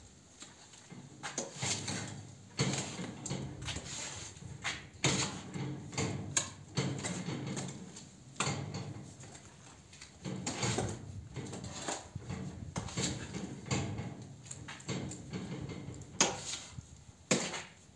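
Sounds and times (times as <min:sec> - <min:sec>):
concrete mix scraping: 0:00.4 - 0:08.2, 0:09.1 - 0:17.9.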